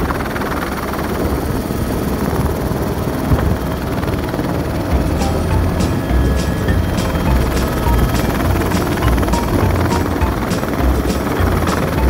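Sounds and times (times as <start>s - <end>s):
helicopter engine and rotors: 0.0s - 12.0s.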